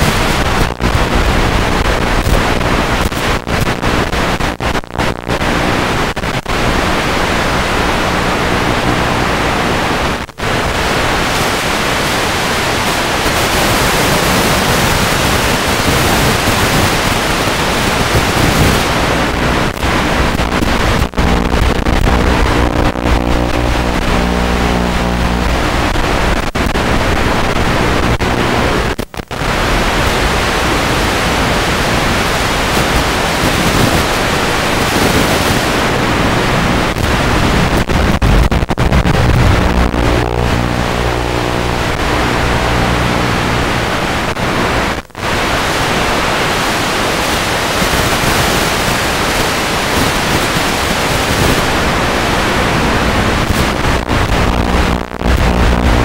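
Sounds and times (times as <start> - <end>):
low multi-tone hum: 0.0 - 46.5, 51.7 - 56.0
static hiss: 0.0 - 56.0.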